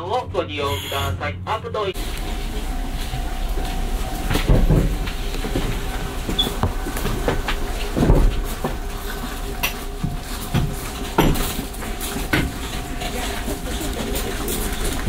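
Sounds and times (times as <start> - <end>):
passengers moving knocks and clatter: 0.0 - 15.0
steady hum: 0.0 - 15.0.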